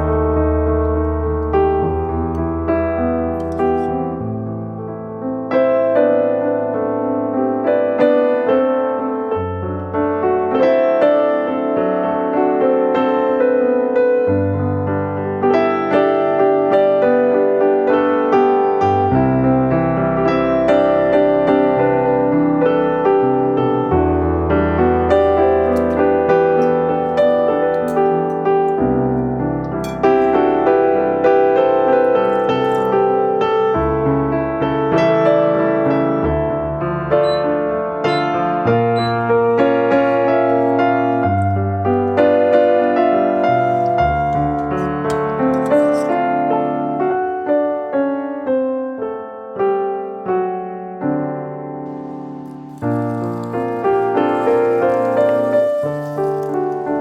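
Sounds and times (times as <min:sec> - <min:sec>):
gentle piano music: 0:00.0 - 0:57.0.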